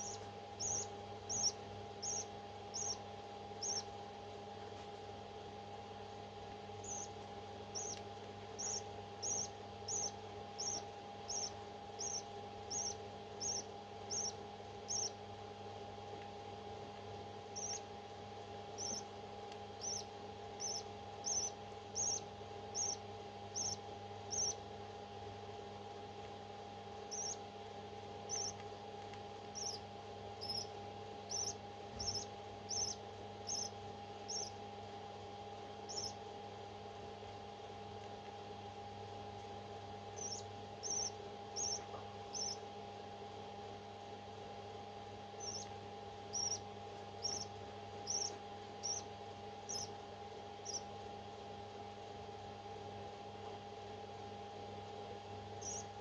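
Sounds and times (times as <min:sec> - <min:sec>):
parrot chick peeping: 0:00.0 - 0:04.8, 0:05.8 - 0:25.0, 0:26.2 - 0:36.6, 0:38.0 - 0:51.1, 0:55.0 - 0:56.0
steady low hum: 0:00.0 - 0:56.0.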